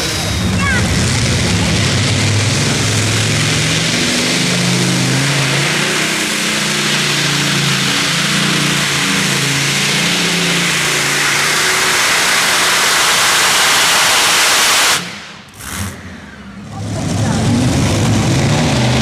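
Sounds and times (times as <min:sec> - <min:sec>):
tractor engine roaring: 0:00.0 - 0:19.0.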